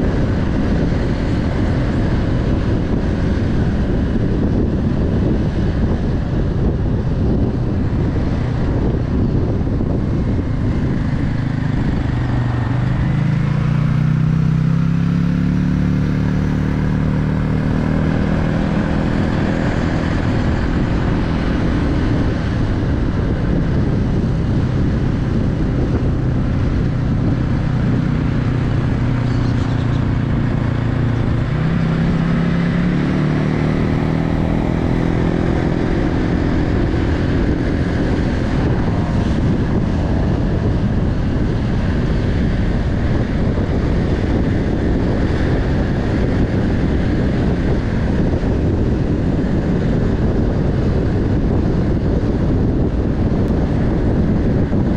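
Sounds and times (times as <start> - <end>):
car engine running: 0.0 - 54.9
road and tyre noise: 0.0 - 54.9.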